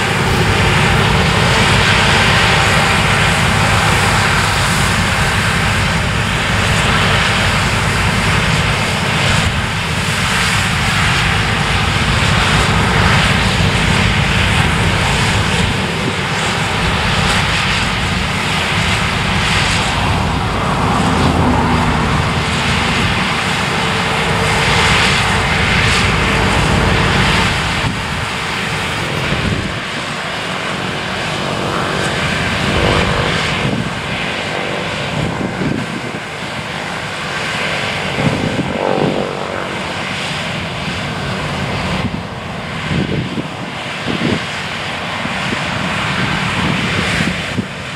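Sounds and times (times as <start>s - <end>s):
combine harvester droning: 0.0s - 43.2s.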